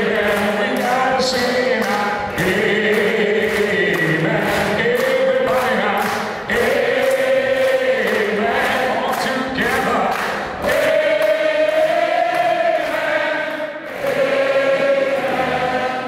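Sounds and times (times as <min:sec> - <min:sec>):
choir singing: 0:00.0 - 0:04.8, 0:06.5 - 0:16.0
hands clapping: 0:00.0 - 0:16.0.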